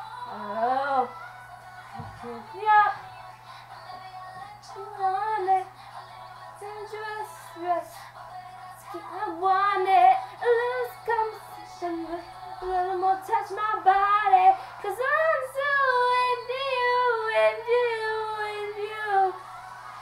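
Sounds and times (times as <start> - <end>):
girl singing a pop melody: 0.0 - 20.0.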